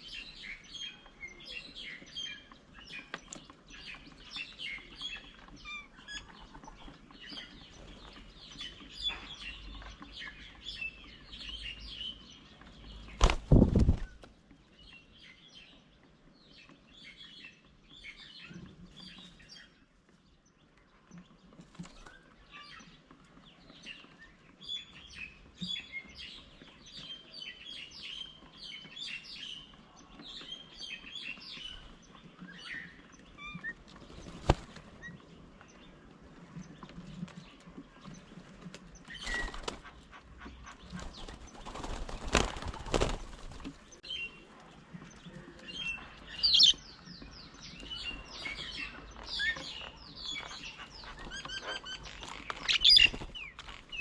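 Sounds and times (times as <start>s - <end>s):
small birds chirping and twittering: 0.0s - 54.0s.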